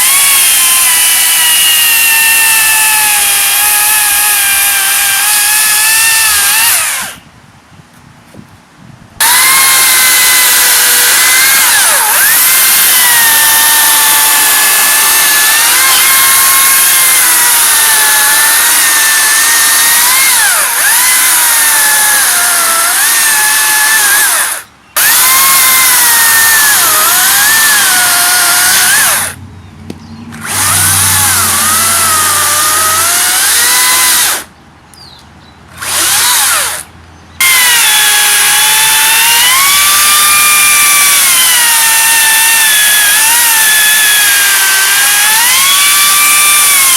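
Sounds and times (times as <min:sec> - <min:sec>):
electric chainsaw motor whine: 0:00.0 - 0:07.2, 0:09.2 - 0:29.4, 0:30.3 - 0:34.5, 0:35.8 - 0:46.9.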